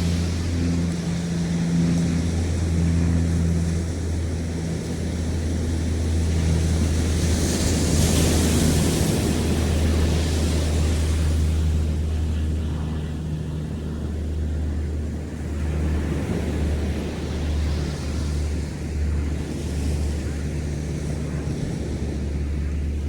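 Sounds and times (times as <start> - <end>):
ocean surf on sandy beach: 0.0 - 23.0
steady low hum: 0.0 - 23.0
wind on microphone: 0.0 - 23.0.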